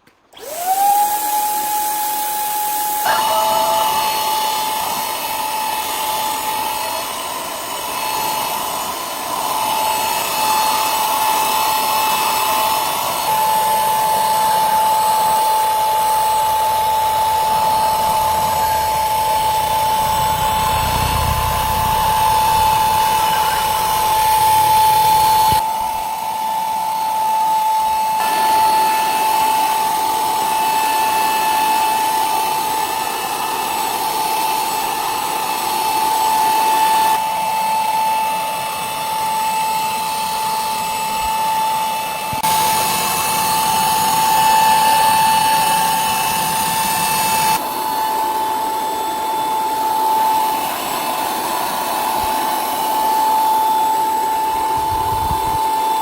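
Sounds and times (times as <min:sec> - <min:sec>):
power tool whining: 0:00.0 - 0:56.0.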